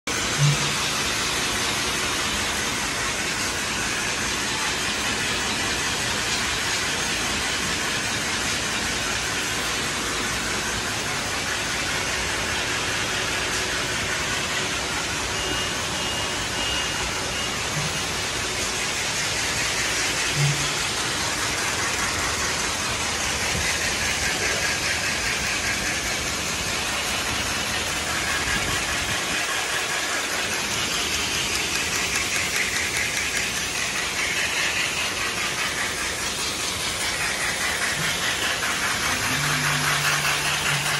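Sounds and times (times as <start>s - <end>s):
machine belts and rollers running: 0.1s - 40.9s.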